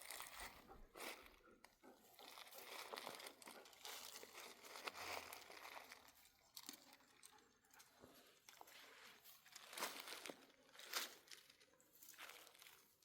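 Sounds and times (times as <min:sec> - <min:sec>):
faint rustling and crackling: 0:02.2 - 0:12.9.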